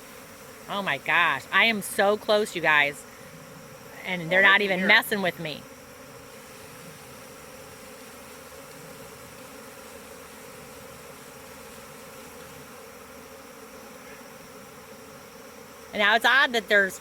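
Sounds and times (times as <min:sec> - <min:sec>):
honeybee swarm buzzing: 0:00.0 - 0:17.0.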